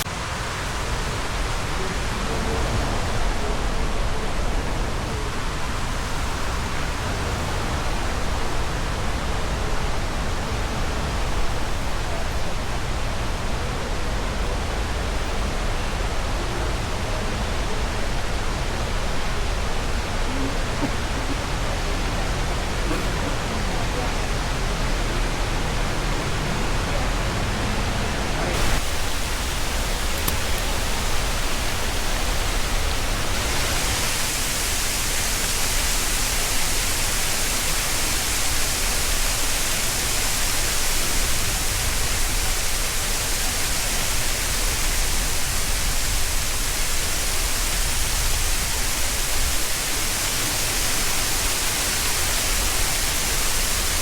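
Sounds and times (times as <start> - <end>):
fountain water jets rushing: 0.0 - 54.0.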